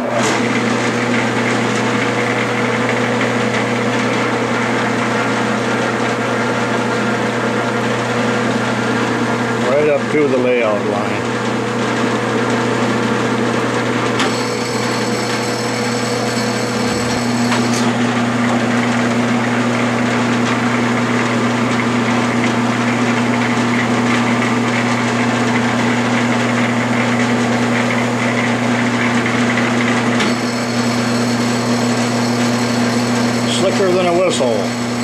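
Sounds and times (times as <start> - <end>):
lathe motor hum and gear whine: 0.0 - 35.0.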